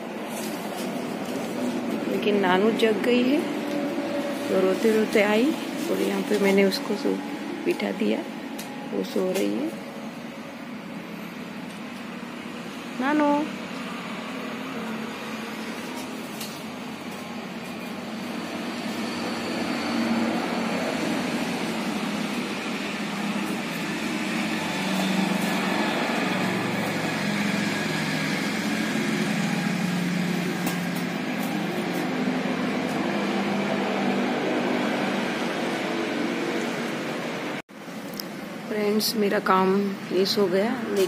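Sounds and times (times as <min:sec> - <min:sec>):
mechanical hum of motor: 0:00.0 - 0:41.0.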